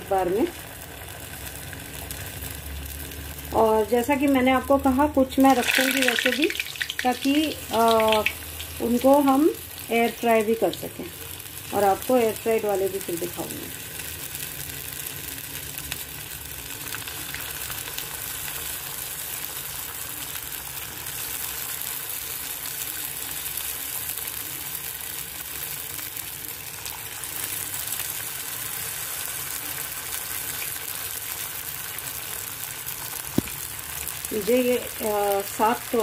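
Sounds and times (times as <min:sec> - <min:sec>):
oil sizzling and bubbling: 0:00.0 - 0:36.0.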